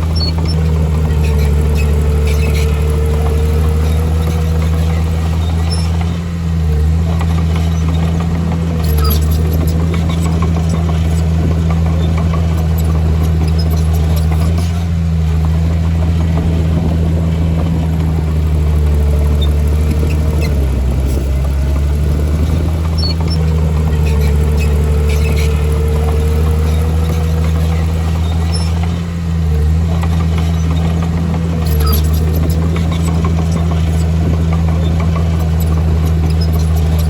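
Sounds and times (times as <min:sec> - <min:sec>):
bulldozer diesel engine drone: 0:00.0 - 0:37.0
thin engine whine: 0:00.0 - 0:37.0.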